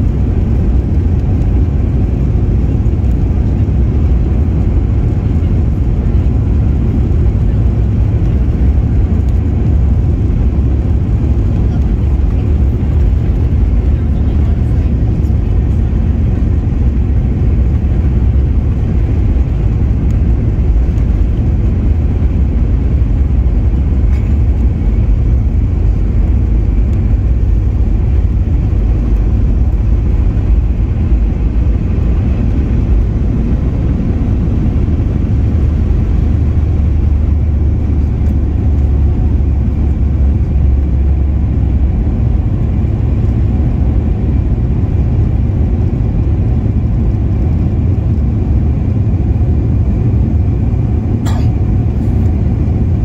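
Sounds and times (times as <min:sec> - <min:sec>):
jet engines roaring: 0:00.0 - 0:53.0
wheels rumbling on runway: 0:00.0 - 0:53.0.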